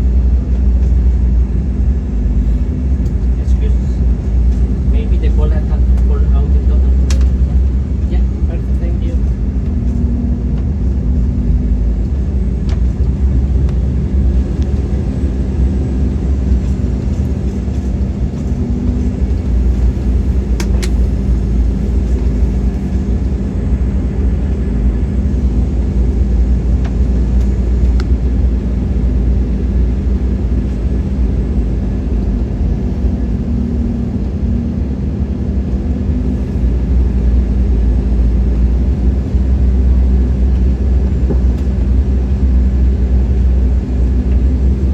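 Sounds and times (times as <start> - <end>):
aircraft engine rumble: 0.0 - 44.9.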